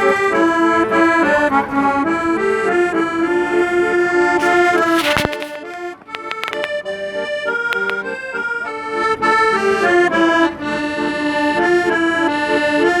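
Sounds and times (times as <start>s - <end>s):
accordion melody: 0.0s - 13.0s.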